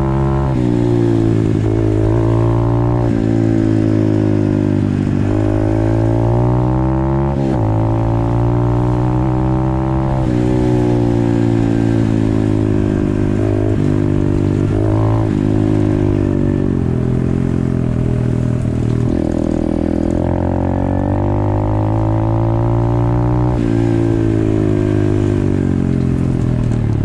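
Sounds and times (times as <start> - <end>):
motorbike engine running at speed: 0.0 - 27.0.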